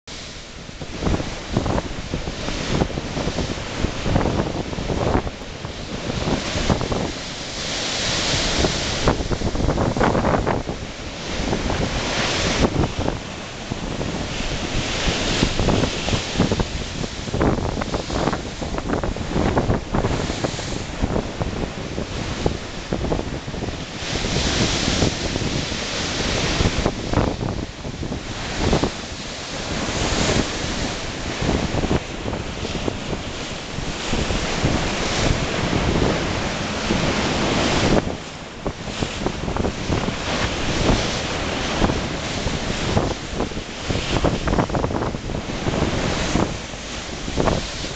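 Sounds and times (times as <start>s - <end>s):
wind buffeting microphone: 0.1s - 47.9s.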